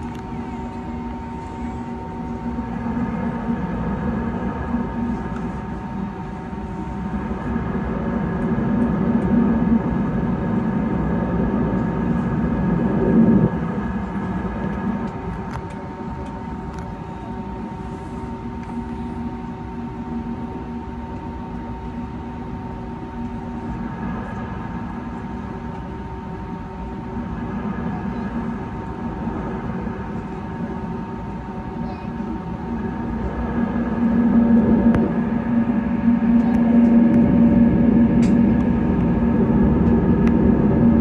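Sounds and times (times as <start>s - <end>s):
aircraft engines idling hum: 0.0s - 41.0s
low rumble: 0.0s - 41.0s.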